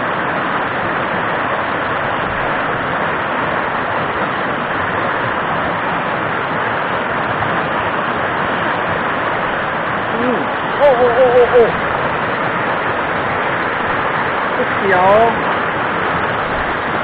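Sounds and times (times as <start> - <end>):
rapids rushing over boulder: 0.0 - 17.0.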